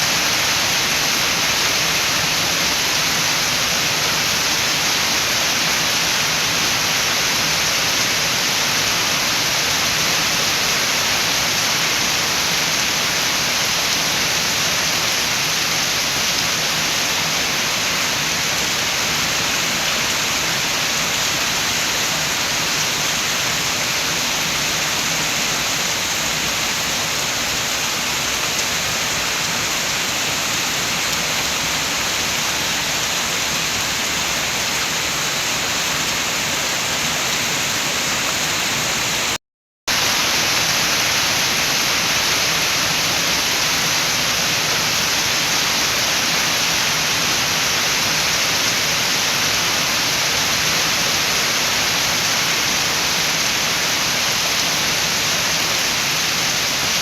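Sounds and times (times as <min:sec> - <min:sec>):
rain with wind: 0:00.0 - 0:57.0.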